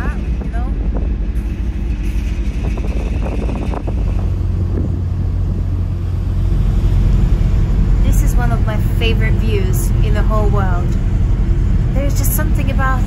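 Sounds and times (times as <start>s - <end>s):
ship engines rumbling: 0.0s - 13.0s
wind buffeting microphone: 0.0s - 13.0s.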